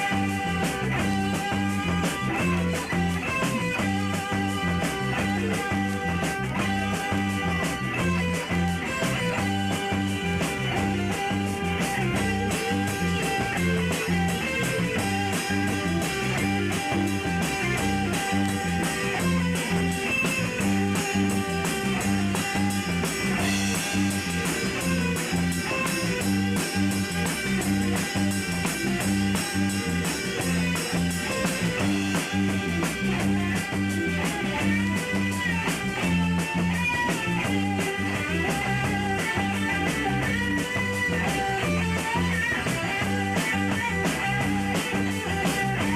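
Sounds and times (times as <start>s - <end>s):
electric guitar: 0.0s - 45.9s
rock band playing live: 0.0s - 45.9s.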